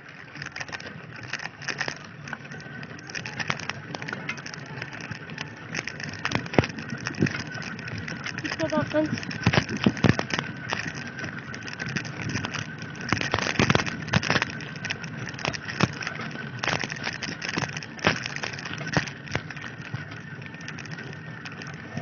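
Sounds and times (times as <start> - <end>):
bicycle knocking over bumps: 0.0 - 22.0
bicycle rolling over dirt road: 0.0 - 22.0.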